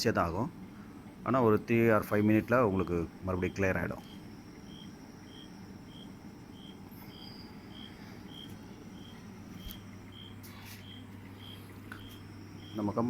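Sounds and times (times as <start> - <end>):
refrigeration unit humming: 0.0 - 13.0.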